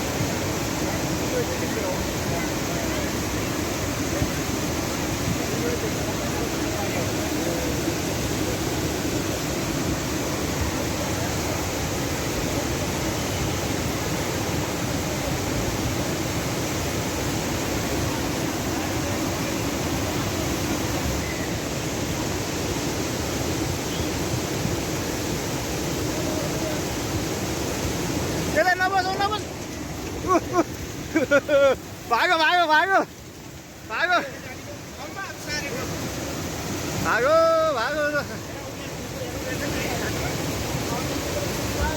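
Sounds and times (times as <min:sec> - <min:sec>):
floodwater rushing: 0:00.0 - 0:41.9.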